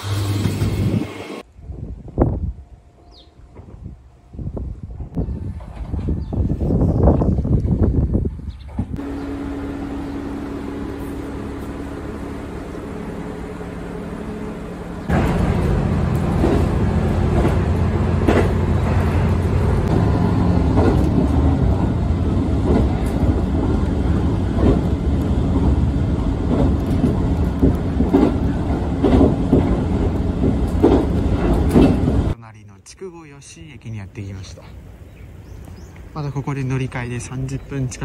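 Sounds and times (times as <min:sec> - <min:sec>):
diesel railcar rumbling: 0:00.0 - 0:32.4, 0:33.4 - 0:38.0.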